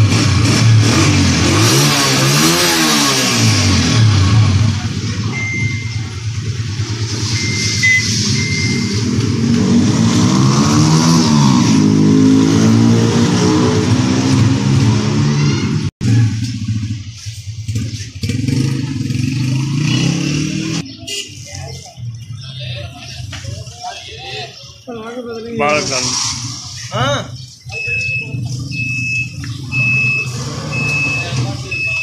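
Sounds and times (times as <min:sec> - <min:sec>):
motorcycle engine revving: 0:00.0 - 0:23.4, 0:25.6 - 0:32.0.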